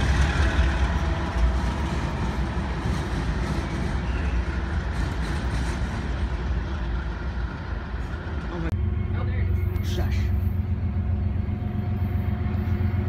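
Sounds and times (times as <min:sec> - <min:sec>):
train passing rumble: 0:00.0 - 0:13.0.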